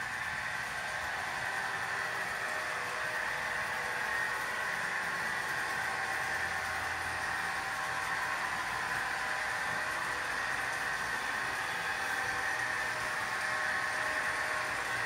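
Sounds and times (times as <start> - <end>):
model train whirring hum: 0.0 - 15.0.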